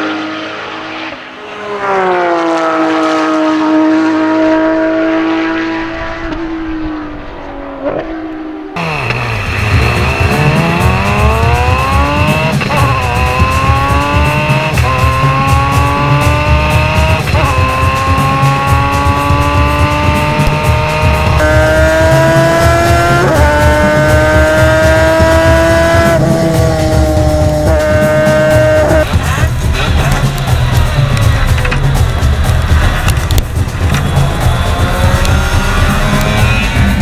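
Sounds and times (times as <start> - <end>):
race car engine at high revs: 0.0 - 37.0
road and wind rumble: 0.0 - 37.0.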